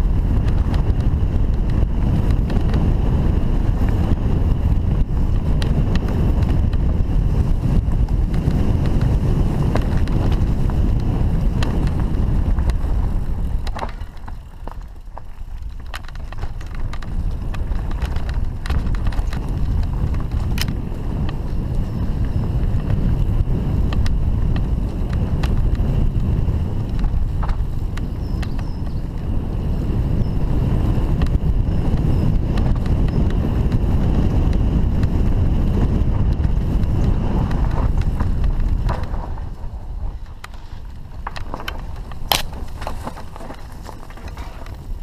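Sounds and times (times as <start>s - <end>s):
bike rattles and knocks: 0.0s - 45.0s
bike tyre noise: 0.0s - 45.0s
wind rumble on microphone: 0.0s - 45.0s.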